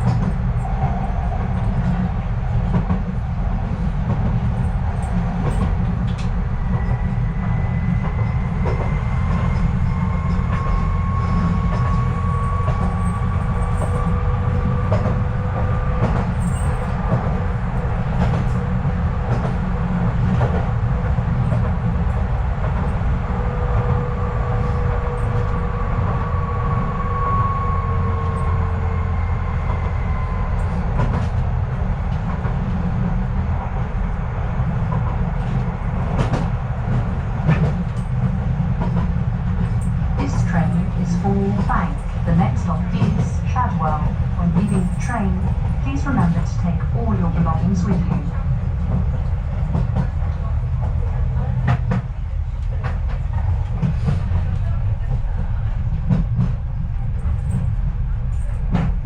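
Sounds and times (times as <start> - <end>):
train rumble and motor whine: 0.0 - 59.0.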